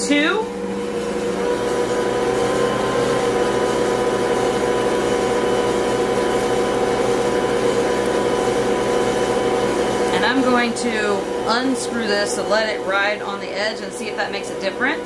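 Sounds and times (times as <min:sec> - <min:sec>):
mixer churning bread dough: 0:00.0 - 0:15.0
stand mixer motor humming: 0:00.0 - 0:15.0.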